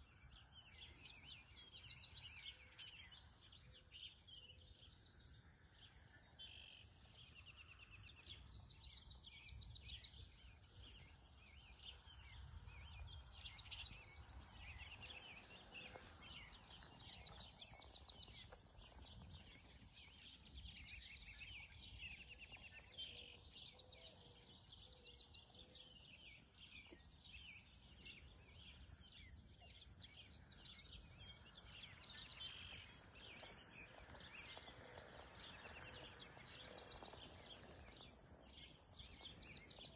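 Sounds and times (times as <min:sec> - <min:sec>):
low rumble of wind: 0:07.0 - 0:23.7, 0:24.3 - 0:39.9.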